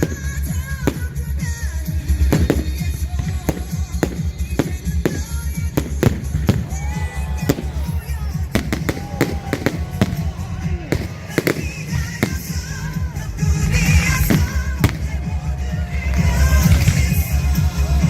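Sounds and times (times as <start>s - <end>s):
fireworks banging: 0.0s - 18.0s
loud music with heavy bass: 0.0s - 18.0s.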